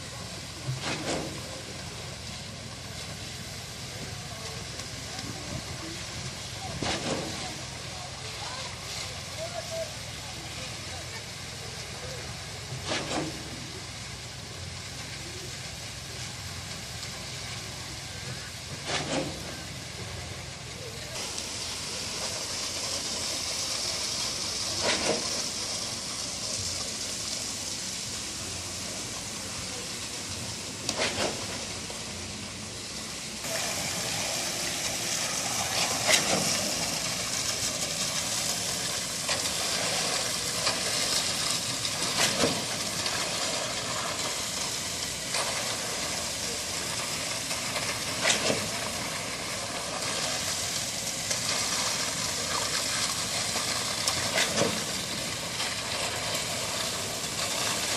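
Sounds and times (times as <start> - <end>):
machinery noise: 0.0 - 57.9.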